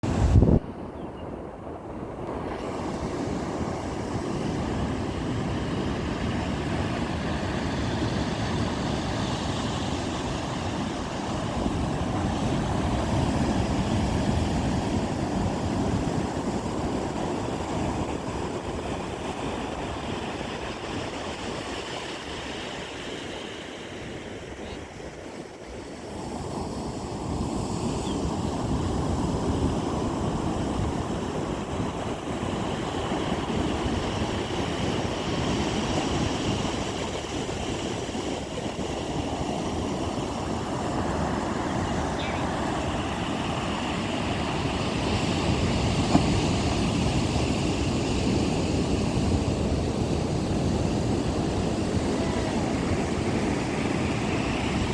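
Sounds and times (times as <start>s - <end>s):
ocean surf breaking on beach: 0.0s - 54.9s
wind on microphone: 0.0s - 54.9s.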